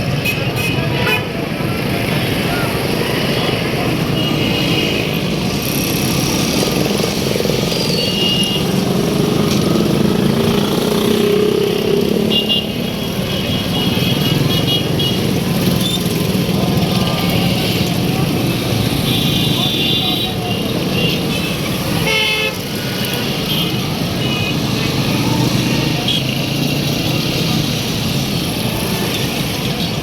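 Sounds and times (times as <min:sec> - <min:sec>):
motorcycles and cars passing: 0:00.0 - 0:30.0.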